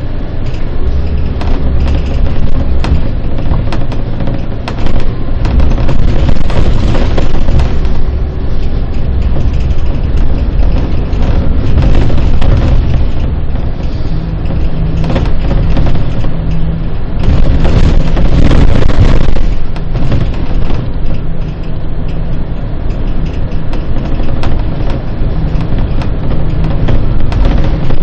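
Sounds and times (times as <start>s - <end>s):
diesel engine drone: 0.0s - 28.0s
knocks and rattles: 0.0s - 28.0s
road rumble: 0.0s - 28.0s.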